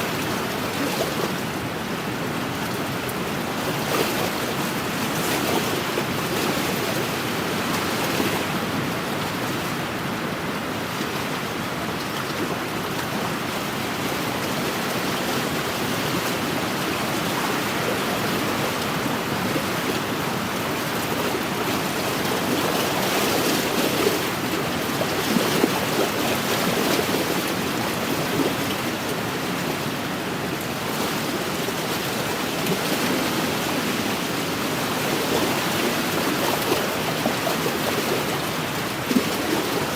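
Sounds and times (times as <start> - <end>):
waves lapping on lakeshore: 0.0 - 39.9.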